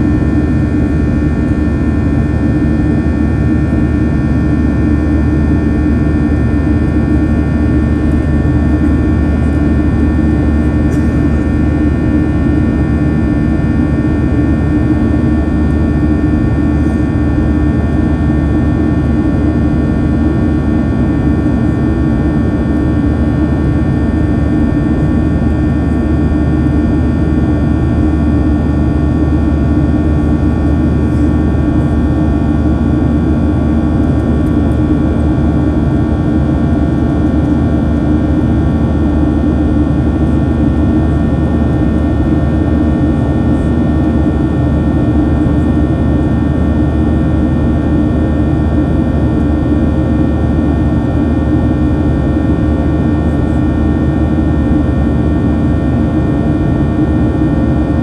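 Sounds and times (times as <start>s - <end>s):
airplane cabin engine rumble: 0.0s - 49.4s.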